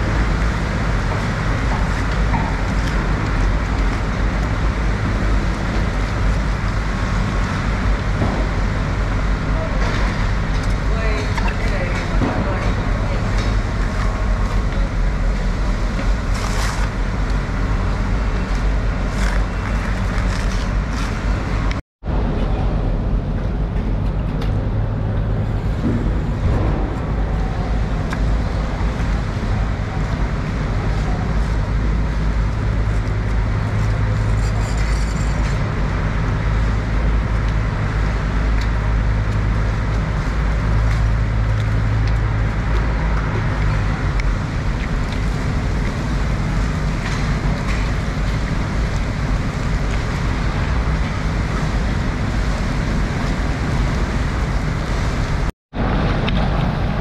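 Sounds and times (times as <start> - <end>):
low machine rumble with hum: 0.0 - 57.0.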